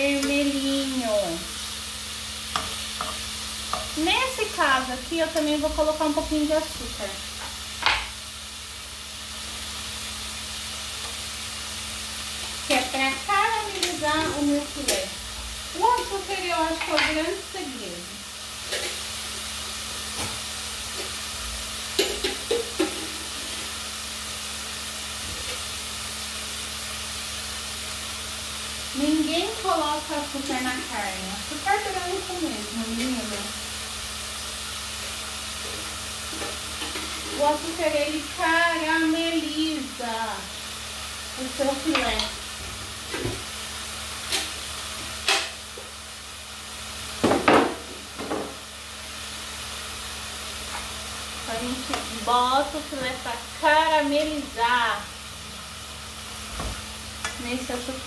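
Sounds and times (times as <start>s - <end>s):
meat sizzling in a pan: 0.0s - 58.0s.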